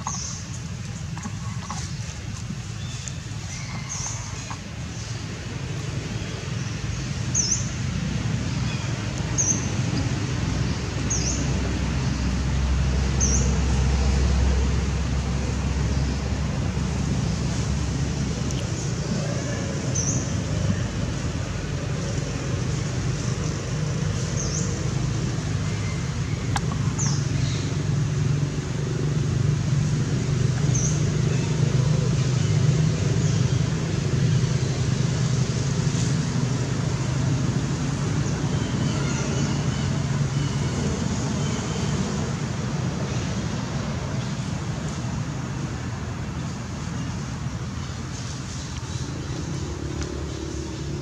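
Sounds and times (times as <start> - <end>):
traffic rumble: 0.0 - 51.0.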